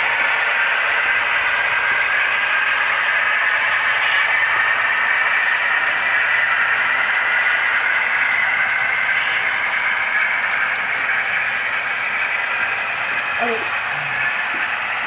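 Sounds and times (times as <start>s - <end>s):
model train running: 0.0s - 15.0s.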